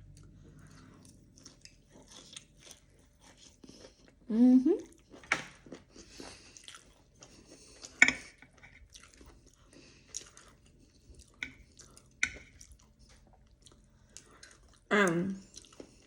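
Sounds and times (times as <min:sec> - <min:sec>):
person chewing crispy food: 0:00.0 - 0:16.0.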